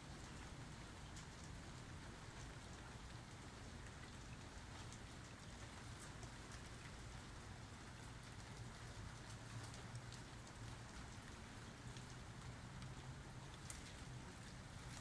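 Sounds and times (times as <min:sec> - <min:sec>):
soft rain falling: 0:00.0 - 0:15.0.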